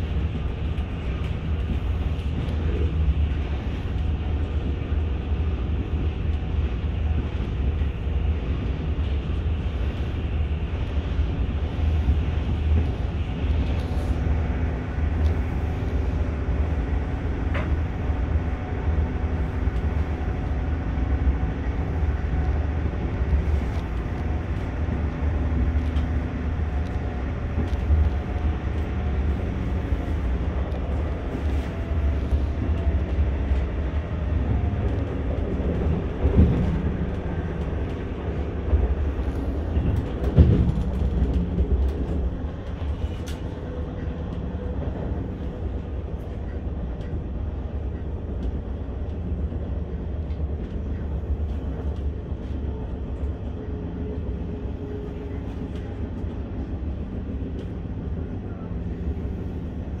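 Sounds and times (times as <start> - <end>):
train rumble inside carriage: 0.0 - 60.0.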